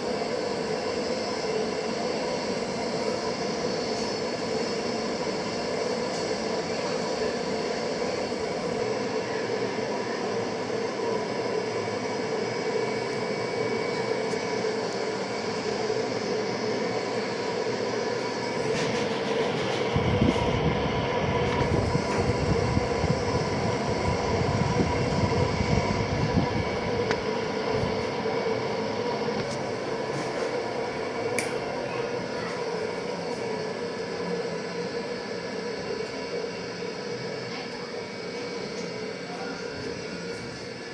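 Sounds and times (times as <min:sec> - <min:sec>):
ceiling fan whirring: 0:00.0 - 0:40.9.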